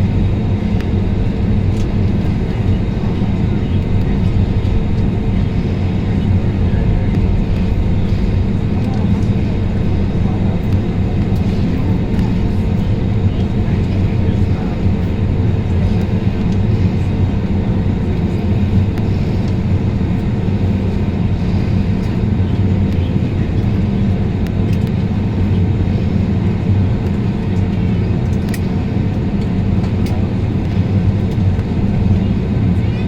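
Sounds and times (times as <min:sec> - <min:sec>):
jet engine cabin rumble: 0:00.0 - 0:33.0.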